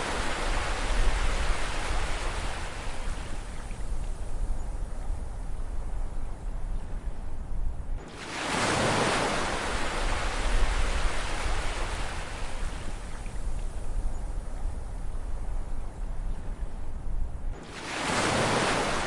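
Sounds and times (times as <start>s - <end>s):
low rumble of sea: 0.0s - 19.0s.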